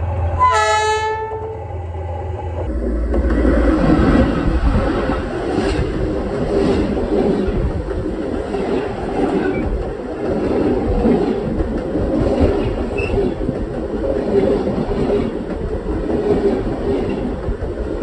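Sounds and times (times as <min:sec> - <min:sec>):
train wheels rumbling: 0:00.0 - 0:18.0
wheels clacking on rails: 0:02.2 - 0:18.0.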